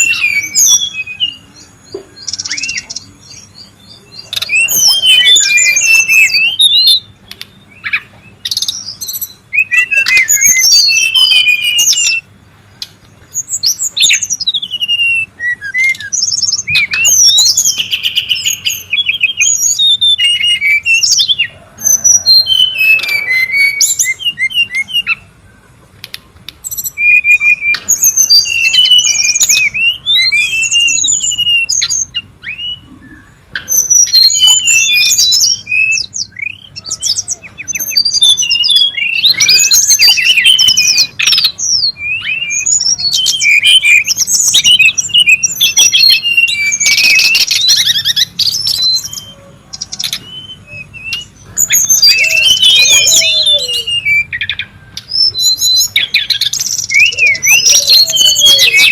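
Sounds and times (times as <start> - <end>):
bird singing whistled phrases: 0.0 - 12.3, 13.3 - 25.3, 26.6 - 58.9
fast bird trill: 0.0 - 12.3, 13.3 - 25.4, 26.6 - 58.9.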